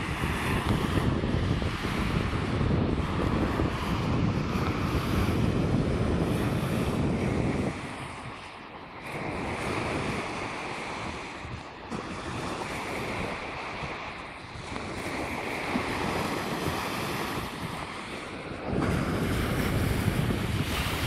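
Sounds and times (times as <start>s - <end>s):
waves washing on sandy shore: 0.0s - 21.0s
wind rumbling on microphone: 0.0s - 21.0s.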